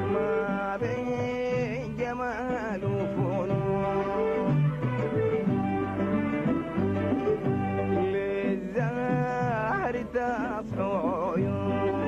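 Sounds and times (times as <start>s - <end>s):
person singing: 0.0s - 5.5s, 7.6s - 12.0s
band music with bowed strings: 0.0s - 12.0s.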